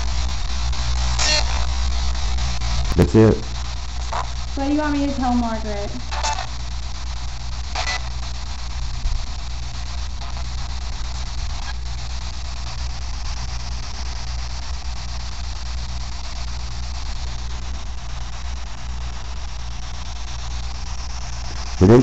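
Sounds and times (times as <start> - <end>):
even hiss: 0.0 - 22.0
steady low hum: 0.0 - 22.0.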